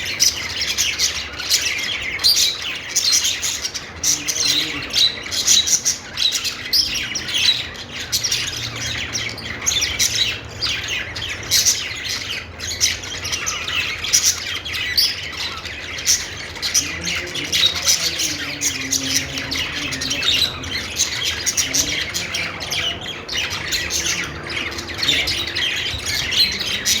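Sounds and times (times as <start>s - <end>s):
budgerigars warbling: 0.0s - 27.0s.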